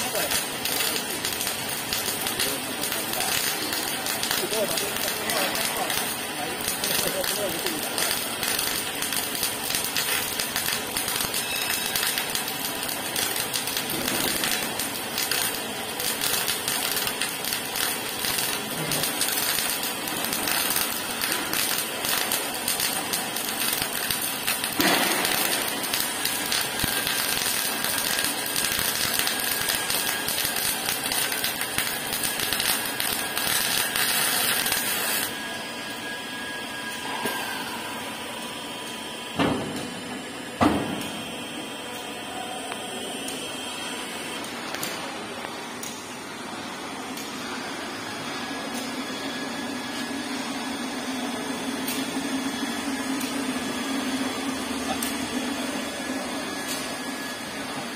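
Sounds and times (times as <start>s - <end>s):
faint machine whine: 0.0s - 57.9s
welding arc crackling: 0.0s - 57.9s.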